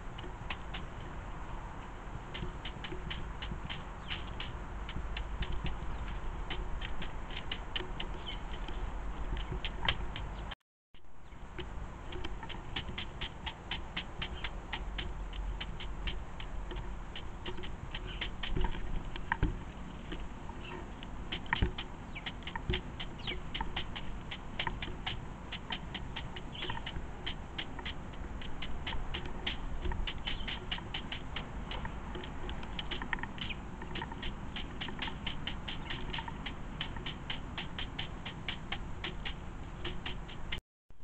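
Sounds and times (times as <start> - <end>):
bird beak pecking on wood: 2.3 - 10.4, 11.6 - 40.6.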